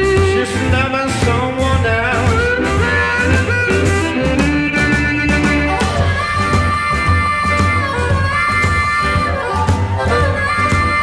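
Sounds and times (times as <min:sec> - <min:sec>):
bending lead guitar line: 0:00.0 - 0:11.0
blues band playing instrumental: 0:00.0 - 0:11.0
steady bass: 0:00.0 - 0:11.0.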